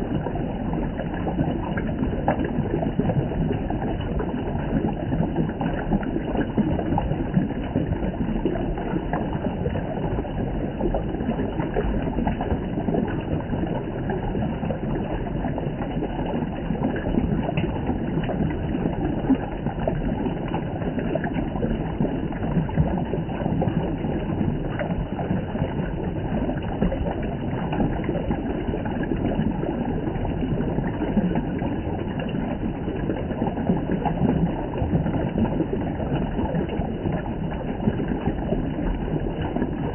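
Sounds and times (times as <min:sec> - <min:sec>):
spring water flowing and splashing: 0:00.0 - 0:39.9.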